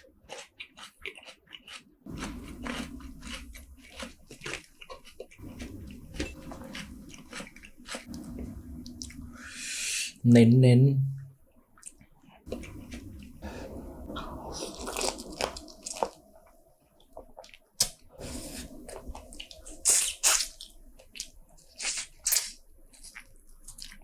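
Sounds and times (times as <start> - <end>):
wet chewing and slurping: 0.0 - 9.5, 11.8 - 24.0.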